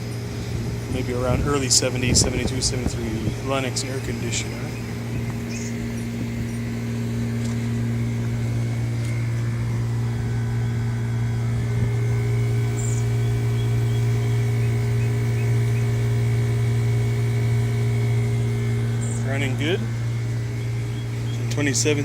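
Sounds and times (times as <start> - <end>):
air conditioner compressor hum: 0.0 - 22.0
condenser fan rushing: 0.0 - 22.0.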